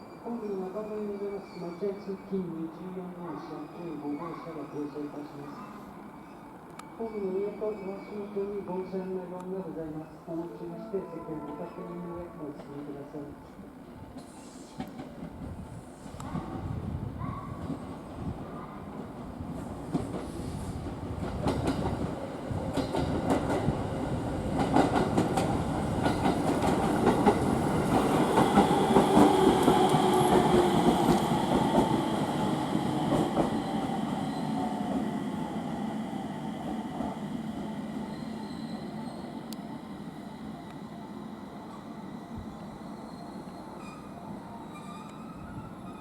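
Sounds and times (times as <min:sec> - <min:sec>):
train passing: 0:00.0 - 0:46.0.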